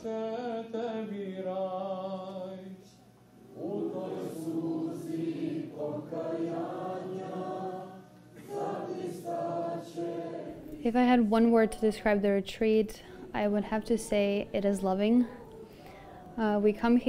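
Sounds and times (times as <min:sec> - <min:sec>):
group singing a chant: 0:00.0 - 0:12.3, 0:13.0 - 0:16.6.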